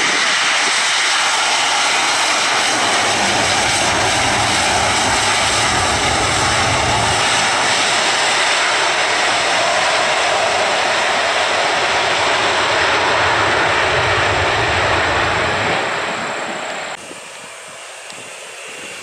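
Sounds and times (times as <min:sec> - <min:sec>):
jet engines running: 0:00.0 - 0:19.0
deep rumble: 0:01.3 - 0:17.0.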